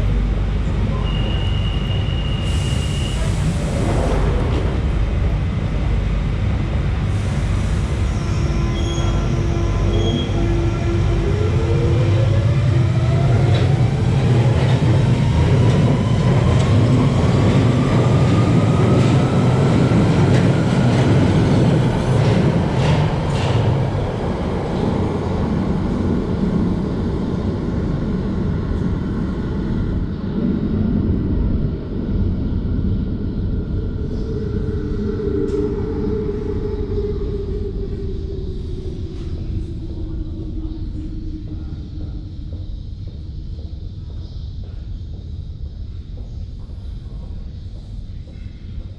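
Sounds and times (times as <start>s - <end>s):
rumble of train wheels: 0.0s - 48.9s.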